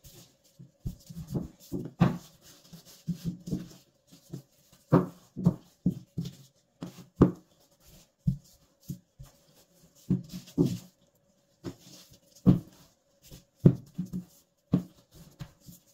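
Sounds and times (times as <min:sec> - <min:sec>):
rolling pin thudding on dough: 0:00.8 - 0:02.4, 0:03.0 - 0:10.9, 0:11.6 - 0:15.9.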